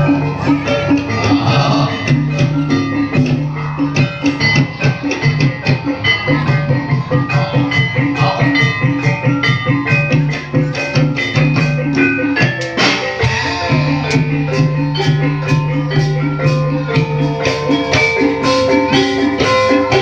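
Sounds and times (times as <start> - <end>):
gamelan ensemble music: 0.0 - 20.0.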